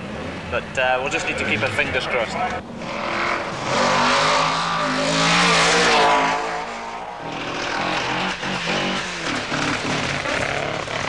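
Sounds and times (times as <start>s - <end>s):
rally car passing at high revs: 0.0s - 11.0s.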